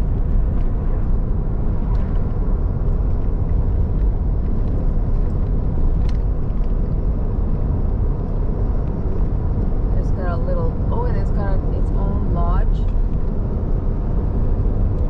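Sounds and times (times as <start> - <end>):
truck driving on highway: 0.0 - 15.0.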